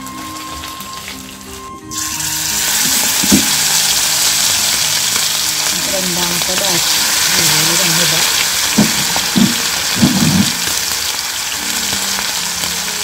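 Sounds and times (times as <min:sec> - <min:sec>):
frying hiss in hot oil: 0:00.0 - 0:13.0.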